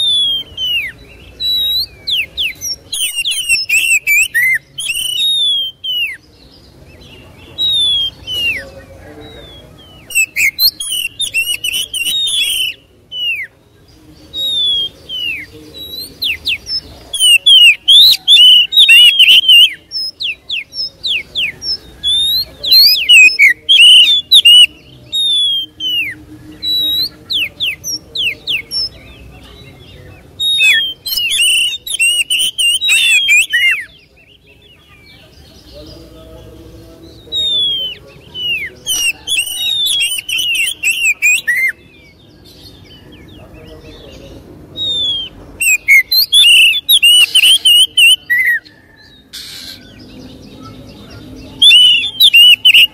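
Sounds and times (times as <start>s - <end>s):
songbird whistles and trills: 0.0s - 13.6s, 14.2s - 34.8s, 37.2s - 43.4s, 44.8s - 52.9s.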